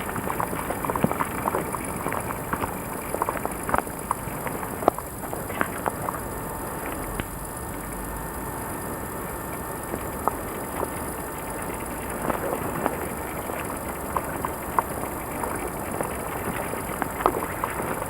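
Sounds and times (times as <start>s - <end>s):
camcorder microphone hiss: 0.0s - 18.0s.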